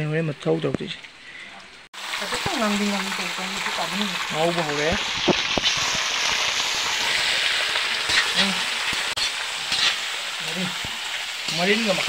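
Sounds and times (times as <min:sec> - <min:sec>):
meat sizzling in a wok: 0:02.0 - 0:12.0.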